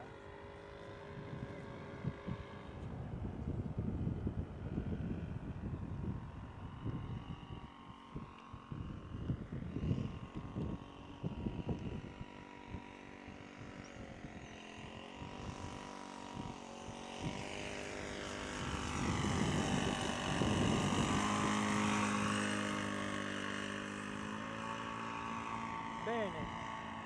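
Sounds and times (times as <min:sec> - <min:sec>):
model airplane engine flying past: 0:00.0 - 0:27.0.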